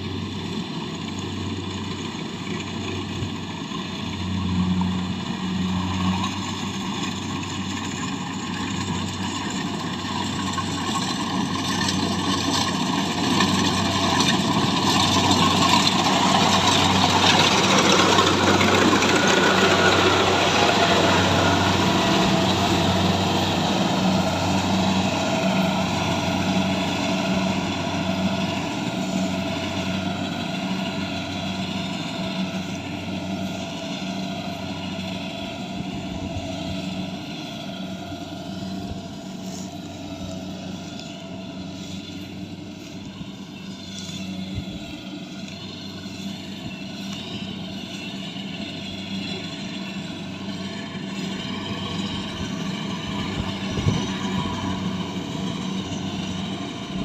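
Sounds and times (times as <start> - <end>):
harvesting machine engine running: 0.0 - 57.0.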